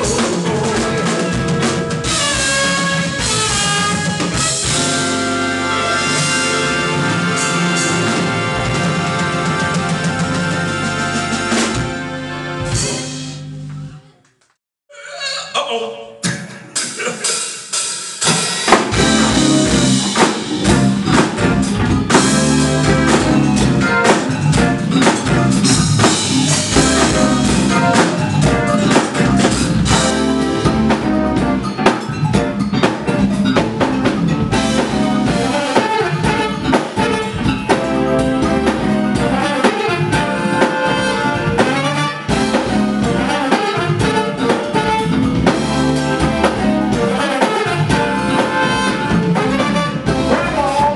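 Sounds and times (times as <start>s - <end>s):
drum kit: 0.0s - 14.1s, 16.2s - 50.9s
live jazz band: 0.0s - 14.1s, 16.2s - 50.9s.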